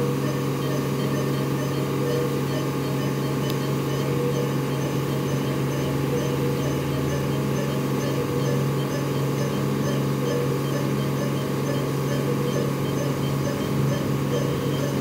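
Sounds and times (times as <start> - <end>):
ventilator machine hum: 0.0 - 15.0
faint high repeating pattern: 0.6 - 15.0.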